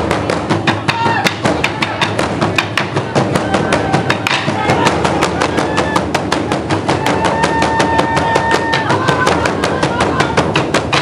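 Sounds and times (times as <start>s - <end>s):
drums beaten with sticks: 0.0s - 11.0s.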